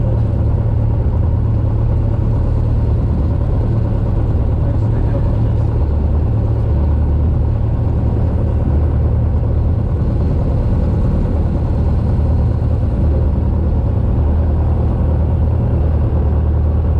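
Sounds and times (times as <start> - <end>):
propeller plane engine droning: 0.0 - 16.9.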